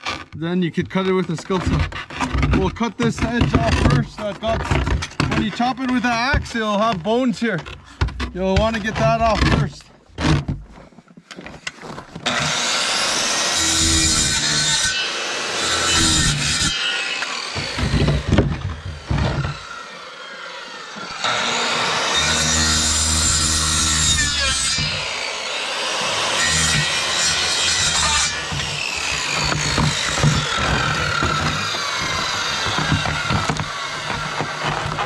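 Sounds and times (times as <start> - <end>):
circular saw cutting bone: 0.0 - 10.4, 12.2 - 35.0.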